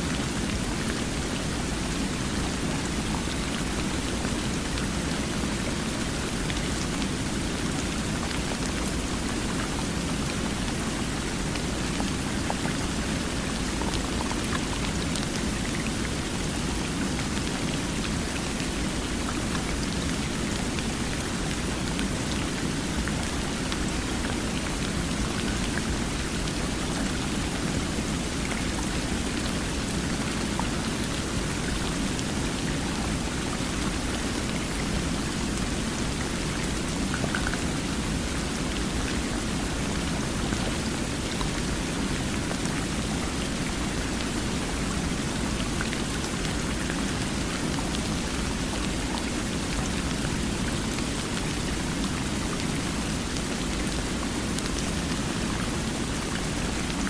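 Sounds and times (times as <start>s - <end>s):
faint drip-like ticks: 0.0s - 57.0s.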